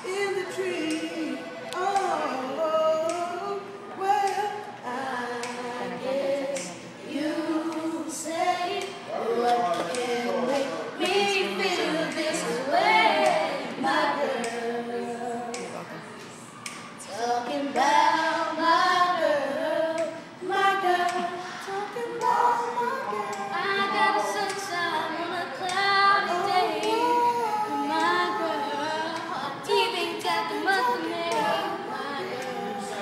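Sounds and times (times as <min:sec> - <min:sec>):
boys singing a cappella: 0:00.0 - 0:33.0.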